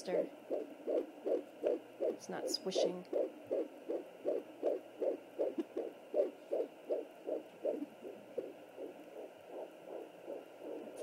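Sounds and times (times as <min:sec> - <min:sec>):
fetal heartbeat on doppler: 0:00.0 - 0:11.0.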